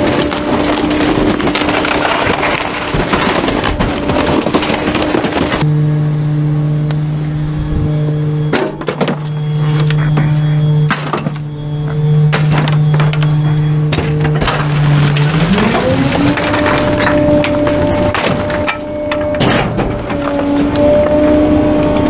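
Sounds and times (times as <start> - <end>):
garbage truck engine running: 0.0 - 22.0.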